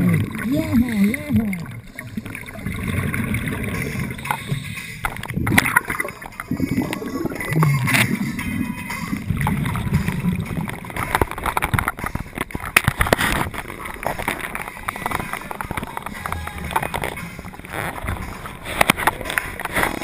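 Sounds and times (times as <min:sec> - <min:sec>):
underwater gurgling: 0:00.0 - 0:20.0.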